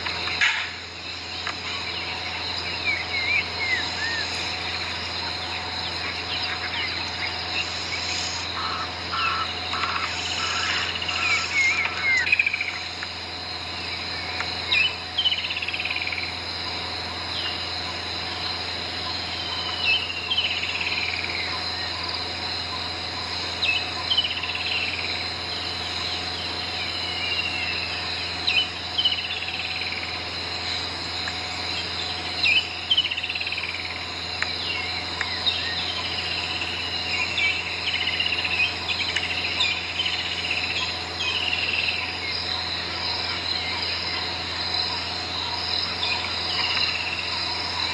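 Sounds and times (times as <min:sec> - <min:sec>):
birds whistling: 0:00.0 - 0:47.9
insect chorus: 0:00.0 - 0:47.9
low steady hum: 0:00.0 - 0:47.9.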